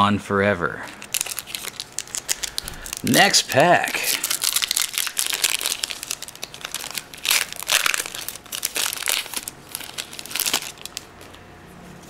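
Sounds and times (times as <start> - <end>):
foil wrapper crinkling and tearing: 0.9 - 11.4.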